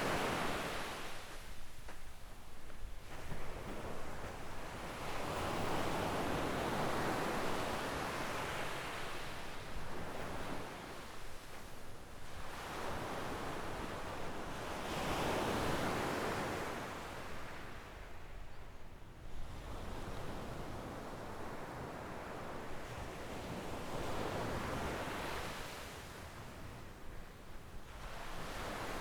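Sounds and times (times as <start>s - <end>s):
small waves breaking on beach: 0.0s - 18.1s, 19.5s - 27.1s, 27.8s - 29.0s.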